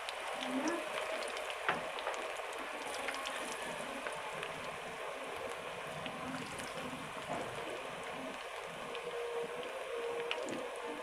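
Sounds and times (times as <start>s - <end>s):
food deep-frying in hot oil: 0.0s - 11.0s
oil crackles and pops: 0.0s - 11.0s.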